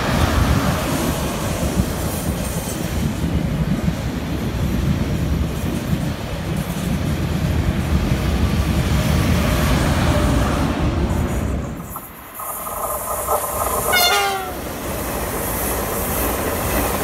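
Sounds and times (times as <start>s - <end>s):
high-speed train rumbling past: 0.0s - 17.0s.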